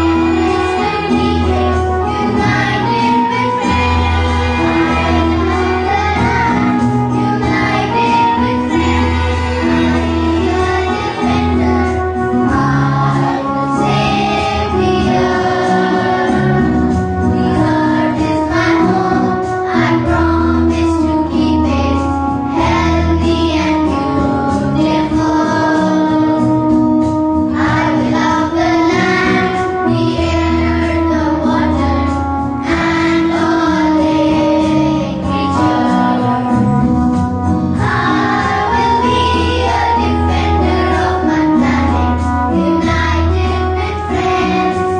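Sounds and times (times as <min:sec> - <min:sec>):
children singing together: 0:00.0 - 0:26.8, 0:27.5 - 0:36.7, 0:37.7 - 0:44.9
instrumental accompaniment: 0:00.0 - 0:44.9.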